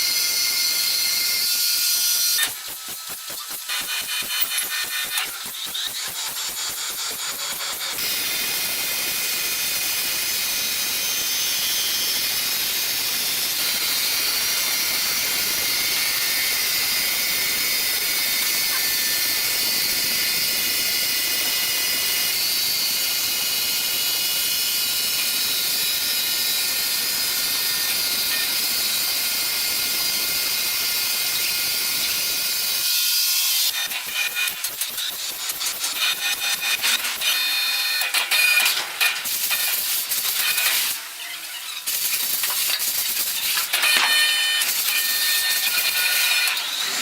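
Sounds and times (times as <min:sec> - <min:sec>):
sawmill saw running: 0:00.0 - 0:47.0.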